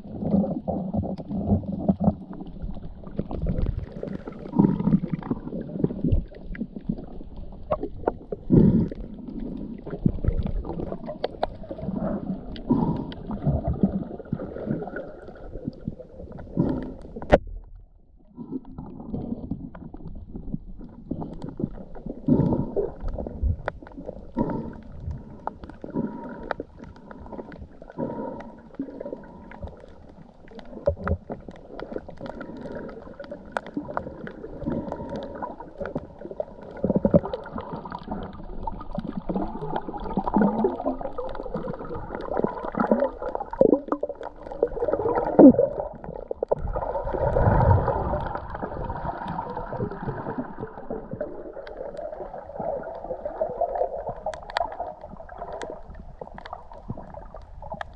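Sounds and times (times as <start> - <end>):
muffled water gurgling: 0.0 - 57.9.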